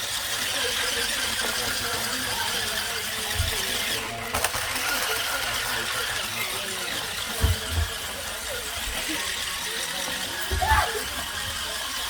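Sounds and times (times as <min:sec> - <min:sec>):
toy car electric motors whining: 0:00.0 - 0:12.0.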